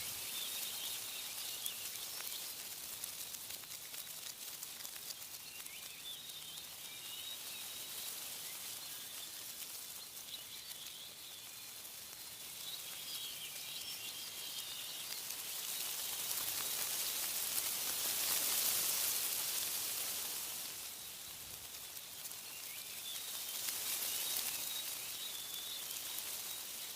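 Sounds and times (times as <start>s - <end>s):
small birds chirping: 0.0s - 26.9s
wind rustling tree leaves: 0.0s - 26.9s.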